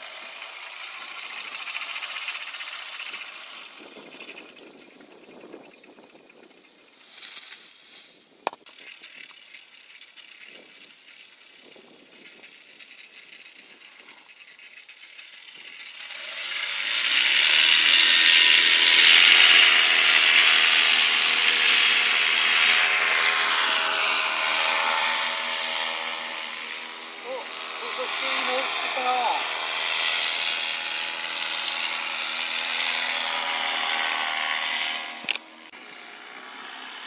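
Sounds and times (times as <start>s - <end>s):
small engine running: 0.0s - 37.0s.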